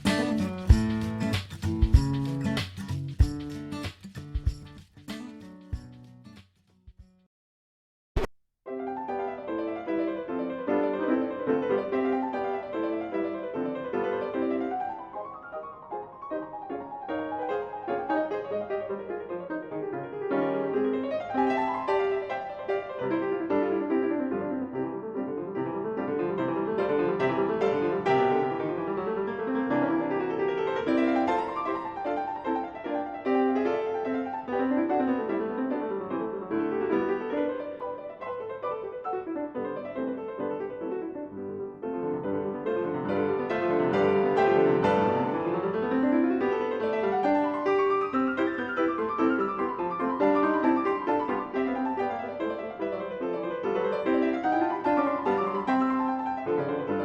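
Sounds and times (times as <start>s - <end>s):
piano music: 0.0s - 6.1s, 8.7s - 57.0s.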